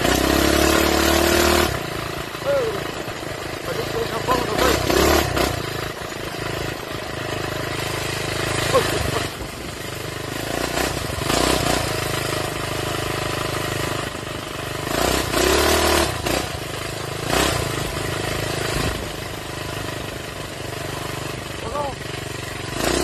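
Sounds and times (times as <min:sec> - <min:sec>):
small engine revving: 0:00.0 - 0:23.0.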